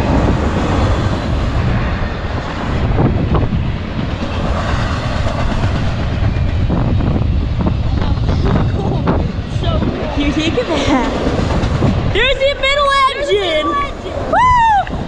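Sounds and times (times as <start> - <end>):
freight train rumble: 0.0 - 15.0
steel wheels clattering on rails: 0.0 - 15.0.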